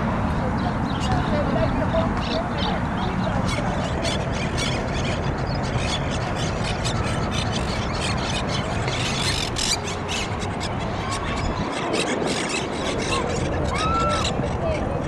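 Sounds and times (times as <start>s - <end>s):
parakeets shrill calls: 2.2s - 14.8s.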